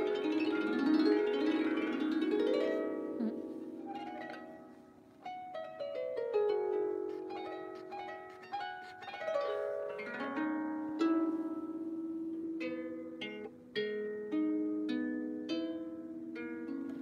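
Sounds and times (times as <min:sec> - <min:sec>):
out-of-tune harp plucked: 0:00.0 - 0:17.0.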